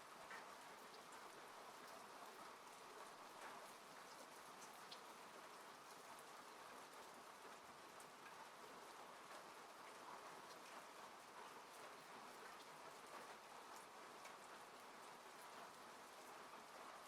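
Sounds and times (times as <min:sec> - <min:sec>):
rain falling on a car: 0:00.0 - 0:17.0.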